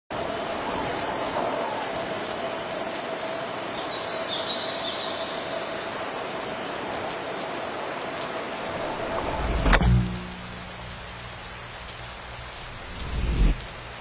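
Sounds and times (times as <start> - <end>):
steady rain falling: 0.1 - 14.0.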